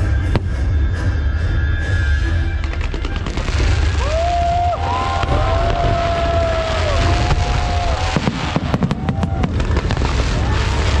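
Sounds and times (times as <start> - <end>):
firework whistles: 0.0 - 11.0.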